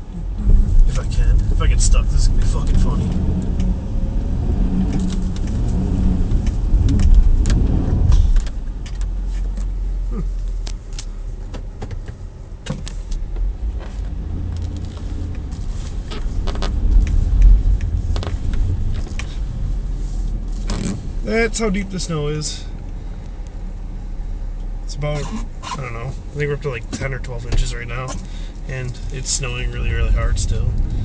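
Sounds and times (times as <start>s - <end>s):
engine and tyre rumble in snow: 0.0s - 31.0s.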